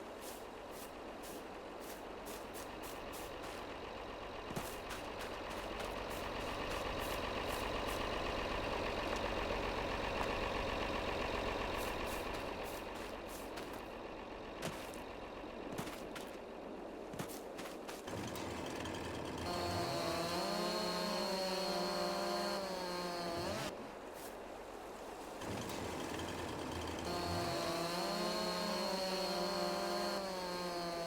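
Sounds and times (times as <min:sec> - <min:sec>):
tractor engine running: 0:00.0 - 0:23.7, 0:25.4 - 0:31.0.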